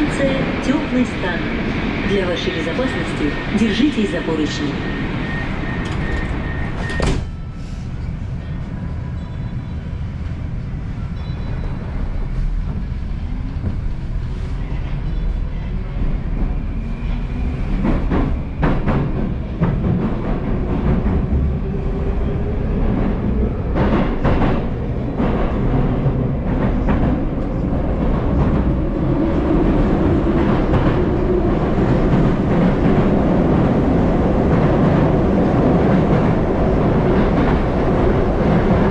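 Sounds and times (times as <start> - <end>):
train running gear rumble: 5.4 - 8.8, 10.0 - 38.9.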